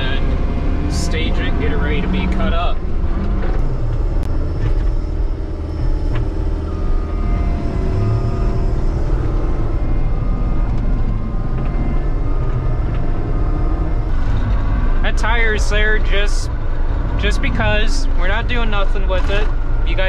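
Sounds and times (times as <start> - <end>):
diesel engine low rumble: 0.0 - 20.0
faint whines and ticks: 0.0 - 20.0.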